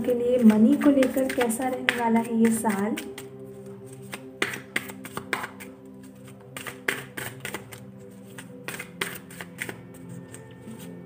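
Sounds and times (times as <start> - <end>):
music with held notes: 0.0 - 11.0
cards being shuffled: 0.4 - 11.0.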